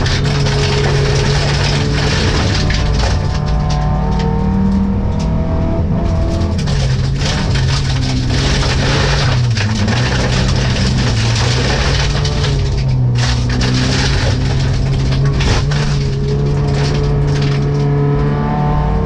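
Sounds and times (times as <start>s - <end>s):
gravel striking car: 0.0s - 19.0s
rally car engine revving: 0.0s - 19.0s.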